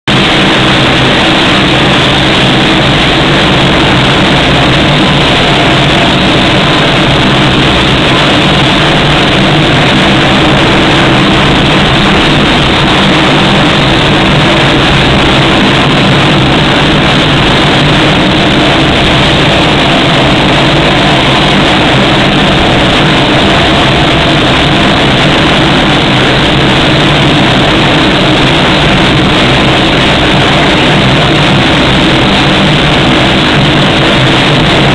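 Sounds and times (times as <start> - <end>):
turboprop engines droning: 0.1 - 34.9.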